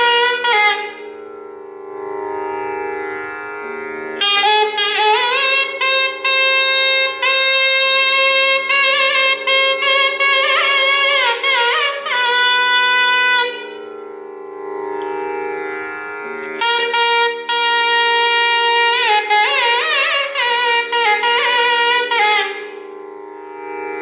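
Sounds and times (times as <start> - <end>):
double-reed pipe melody: 0.0 - 24.0.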